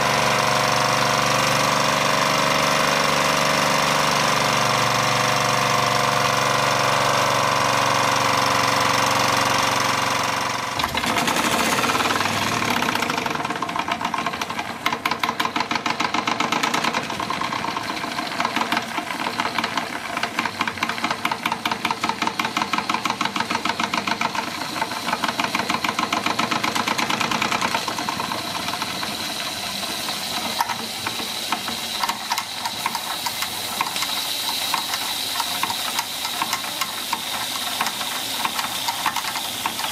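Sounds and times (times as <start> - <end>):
toy steam engine chuffing: 0.0 - 39.9.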